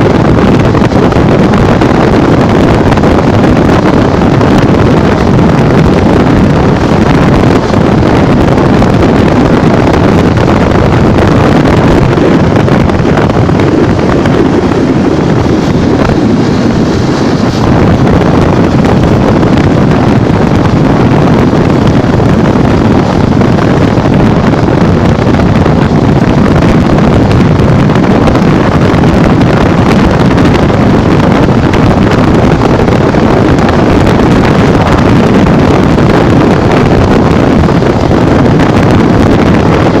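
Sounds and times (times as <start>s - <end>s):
motorcycle riding rush: 0.0s - 40.0s
wind buffeting microphone: 0.0s - 40.0s.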